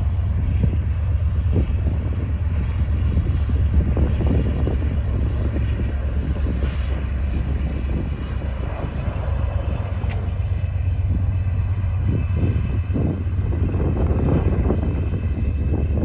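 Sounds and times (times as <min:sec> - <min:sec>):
diesel locomotives droning: 0:00.0 - 0:16.0.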